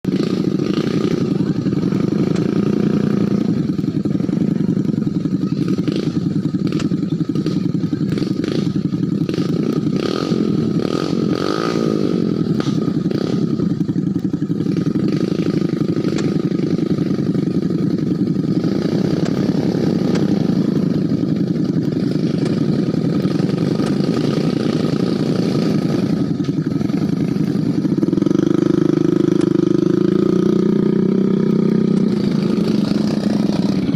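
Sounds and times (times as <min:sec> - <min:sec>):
engine chugging: 0:00.0 - 0:33.9
engine clattering: 0:00.0 - 0:33.9.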